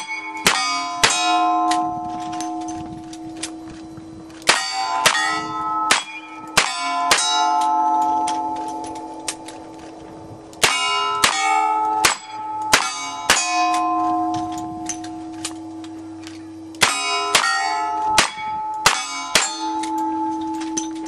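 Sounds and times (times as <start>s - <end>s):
steel plates ringing: 0.0s - 21.0s.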